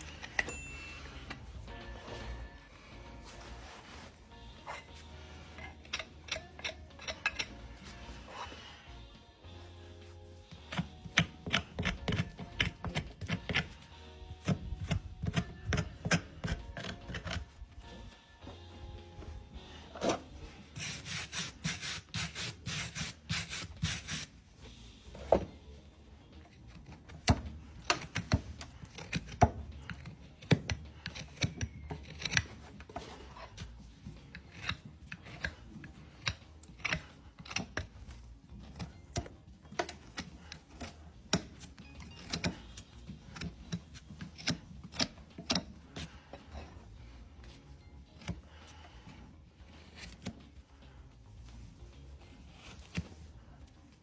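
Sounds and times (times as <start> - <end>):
hoof trimming clicks and scrapes: 0.0 - 8.9, 10.0 - 18.6, 25.4 - 54.0
rasp strokes on hoof: 0.0 - 25.1, 26.4 - 54.0.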